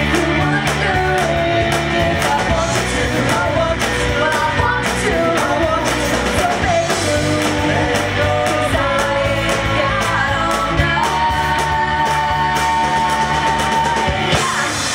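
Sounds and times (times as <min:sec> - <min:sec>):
rock band playing: 0:00.0 - 0:14.9
woman singing: 0:00.0 - 0:14.9.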